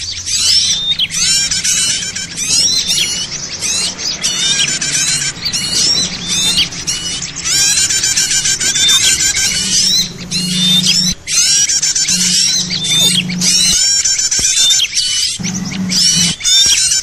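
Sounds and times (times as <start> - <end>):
many small birds chattering: 0.0 - 17.0
low buzz: 0.3 - 14.8, 15.4 - 17.0.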